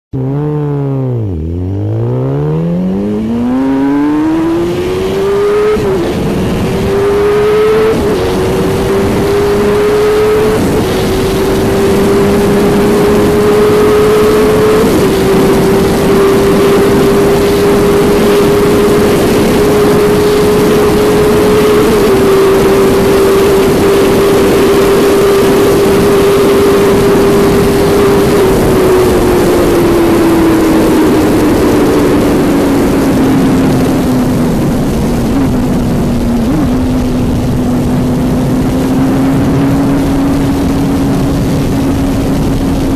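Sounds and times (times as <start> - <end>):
motorcycle engine accelerating hard: 0.1 - 42.9
wind noise: 0.2 - 42.9.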